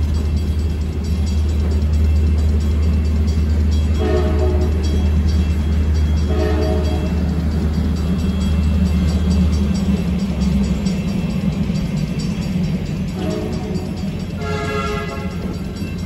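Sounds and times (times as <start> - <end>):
chord of steady tones: 0.0 - 16.0
train cars rumbling past: 0.0 - 16.0.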